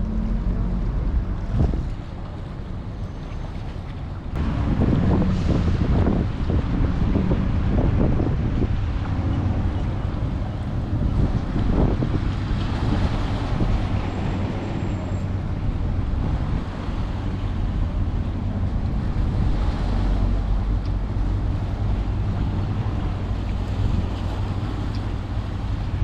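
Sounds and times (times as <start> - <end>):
wind rushing over microphone: 0.0 - 2.4, 4.3 - 26.0
low rumble and hum: 0.0 - 26.0.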